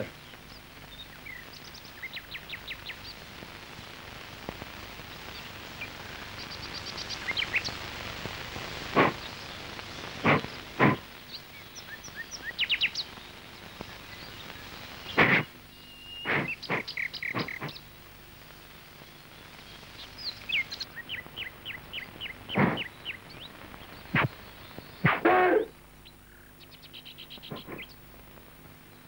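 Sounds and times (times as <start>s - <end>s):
small birds chirping: 0.0s - 29.0s
steady background hiss: 0.0s - 29.0s.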